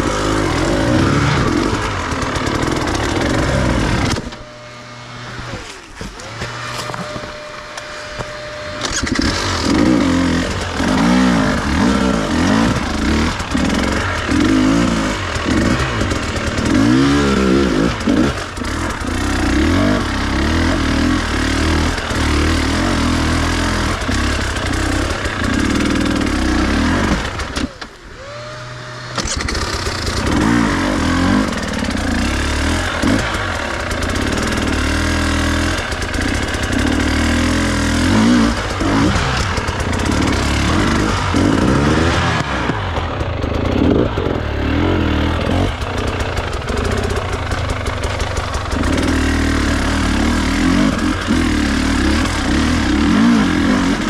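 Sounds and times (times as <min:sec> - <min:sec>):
dirt bike engine revving: 0:00.0 - 0:54.0
electric starter whirring: 0:00.0 - 0:54.0.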